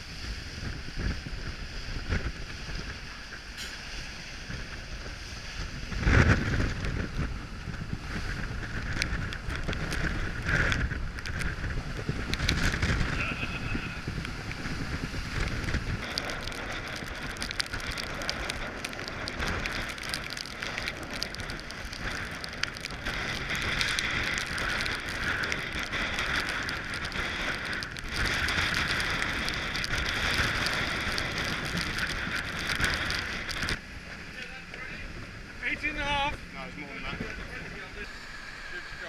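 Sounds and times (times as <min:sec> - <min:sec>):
rain and spray pattering: 0:00.0 - 0:39.0
water rushing: 0:00.0 - 0:39.0
wind: 0:00.0 - 0:39.0.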